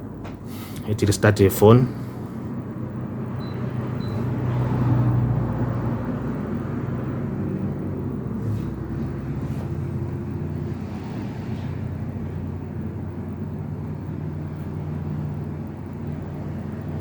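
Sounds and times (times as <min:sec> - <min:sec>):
low background rumble with hum: 0:00.0 - 0:17.0.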